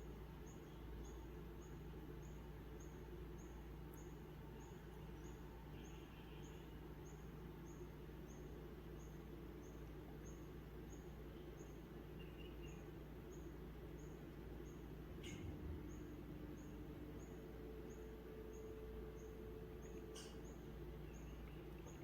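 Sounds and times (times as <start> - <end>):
low steady hum: 0.0 - 22.0
soft bird chirps: 0.0 - 22.0.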